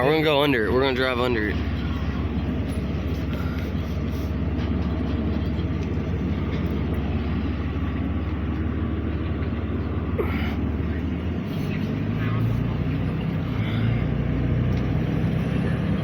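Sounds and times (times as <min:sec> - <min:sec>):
vehicle road and engine rumble: 0:00.0 - 0:16.0.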